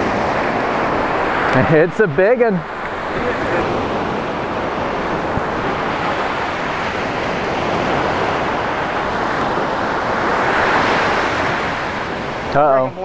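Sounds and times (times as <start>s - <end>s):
surf waves washing onto beach: 0.0s - 13.0s.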